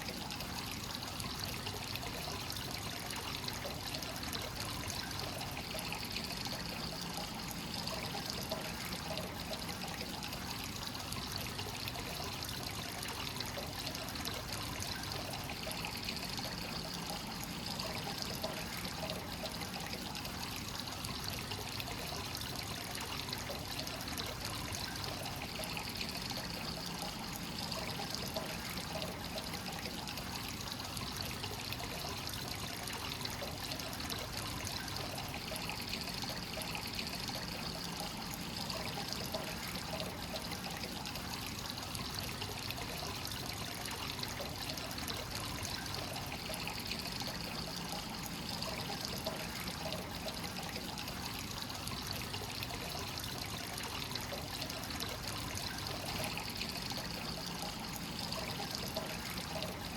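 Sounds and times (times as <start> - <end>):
water pouring into a bath: 0.0 - 59.9.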